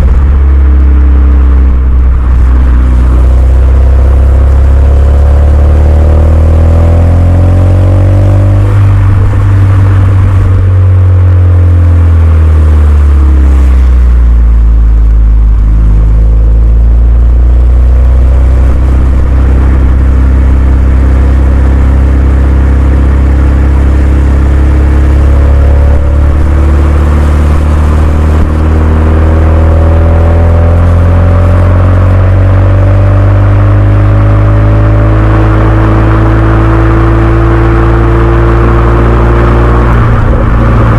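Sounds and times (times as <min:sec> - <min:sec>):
car engine through exhaust: 0:00.0 - 0:40.9.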